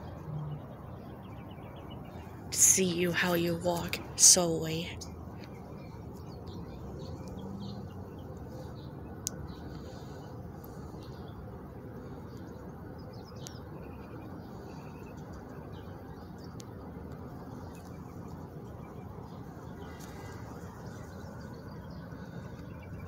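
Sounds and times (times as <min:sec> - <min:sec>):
faint bird chirps: 0:00.0 - 0:23.0
low outdoor background noise: 0:00.0 - 0:23.0.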